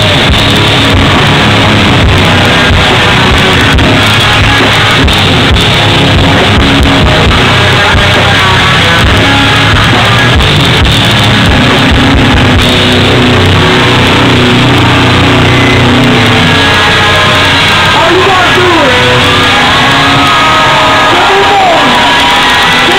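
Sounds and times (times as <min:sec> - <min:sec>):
hardcore band playing: 0:00.0 - 0:22.9.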